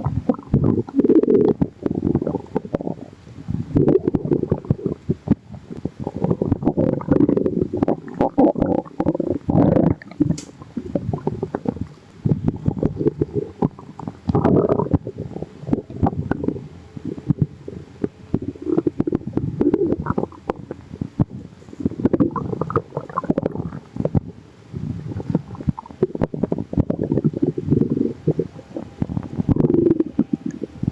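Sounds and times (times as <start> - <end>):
stomach growling and gurgling: 0.0 - 30.9.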